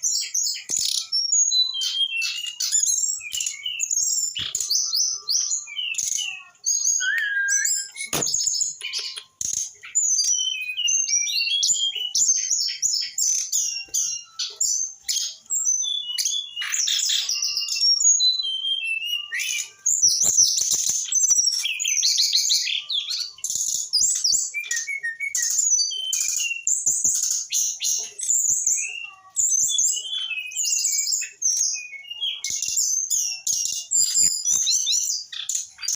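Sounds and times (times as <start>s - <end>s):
bird singing high chirps and whistles: 0.0s - 35.9s.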